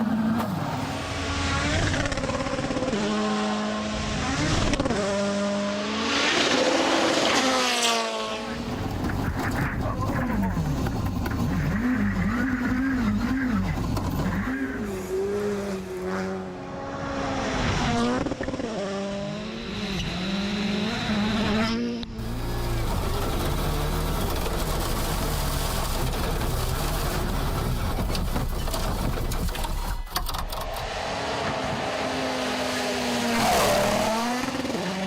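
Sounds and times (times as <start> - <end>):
rally car engines revving: 0.0 - 35.0
rushing engine and road noise: 0.0 - 35.0.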